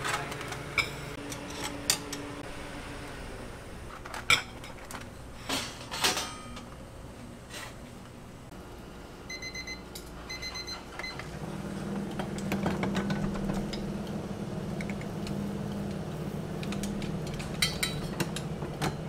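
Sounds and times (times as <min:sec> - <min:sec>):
steady low hum: 0:00.3 - 0:19.0.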